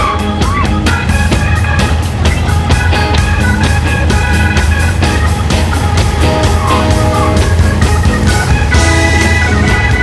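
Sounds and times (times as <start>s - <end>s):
blues music with electric guitar: 0.0s - 10.0s.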